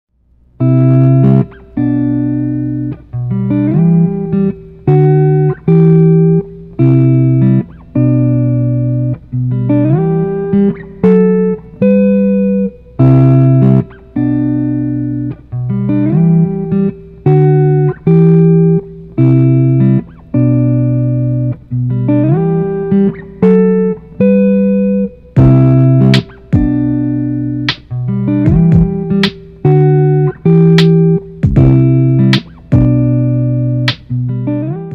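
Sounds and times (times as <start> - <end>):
guitar chords ringing: 0.4 - 34.9.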